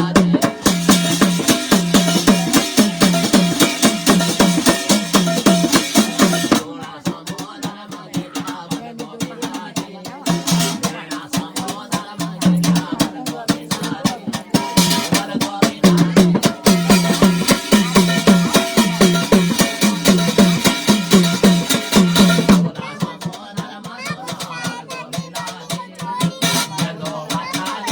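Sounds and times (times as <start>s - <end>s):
fast drum strokes: 0.0s - 27.9s.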